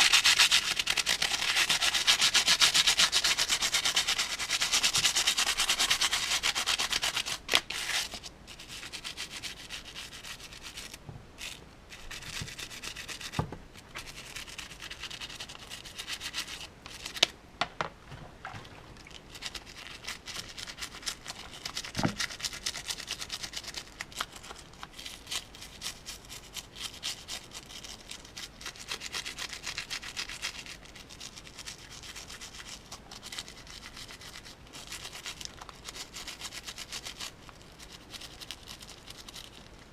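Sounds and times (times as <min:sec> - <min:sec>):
toothbrush scrubbing plastic: 0:00.0 - 0:17.3, 0:19.0 - 0:39.8.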